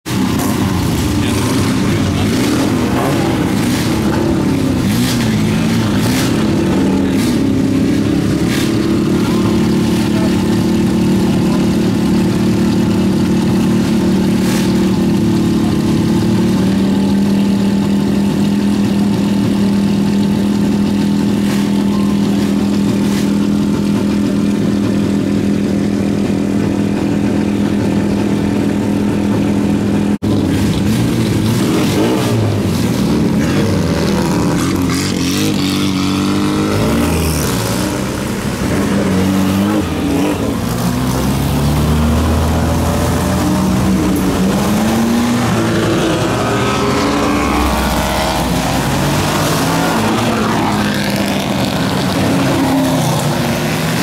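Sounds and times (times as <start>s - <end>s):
race car engines idling and revving: 0.0s - 54.0s.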